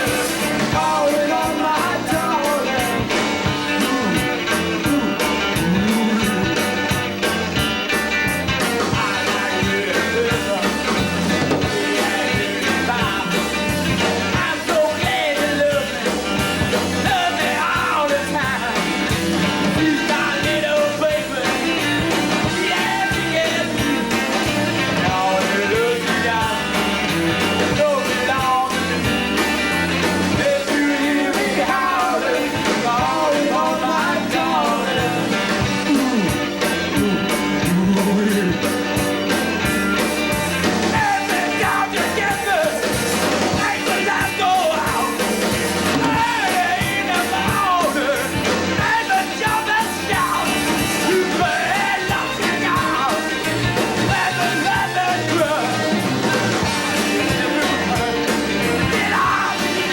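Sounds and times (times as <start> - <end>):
person singing: 0.0 - 6.9, 8.6 - 16.2, 17.0 - 24.2, 24.9 - 26.8, 30.3 - 38.9, 40.9 - 42.9, 43.5 - 45.3, 45.9 - 59.9
live rock band playing: 0.0 - 59.9.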